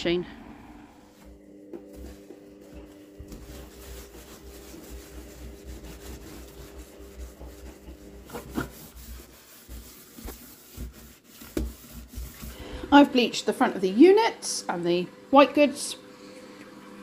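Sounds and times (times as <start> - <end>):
cloth scrubbing wet sink: 0.1 - 17.0.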